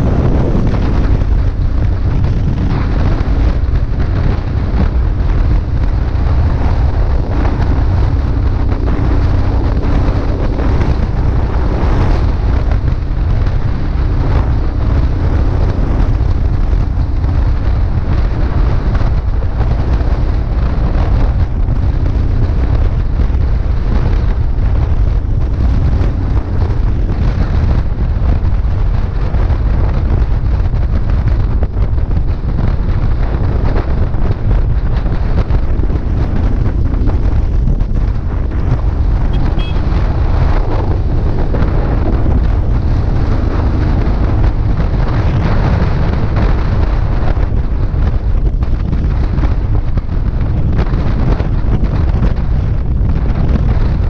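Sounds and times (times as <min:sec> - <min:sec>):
motorcycle engine hum: 0:00.0 - 0:54.0
wind buffeting microphone: 0:00.0 - 0:54.0.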